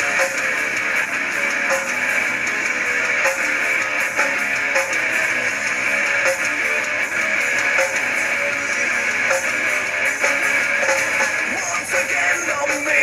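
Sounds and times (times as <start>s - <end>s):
guitar music with steady beat: 0.0s - 13.0s.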